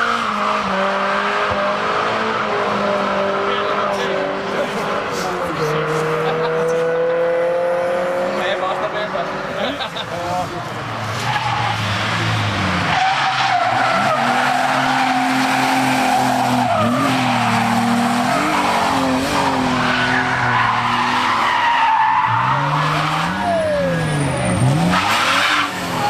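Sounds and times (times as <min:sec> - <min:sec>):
race car engines revving: 0:00.0 - 0:26.0.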